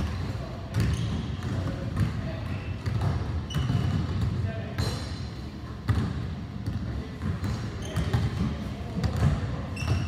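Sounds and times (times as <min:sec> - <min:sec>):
basketballs bouncing on wooden floor: 0:00.7 - 0:04.9, 0:05.8 - 0:10.0.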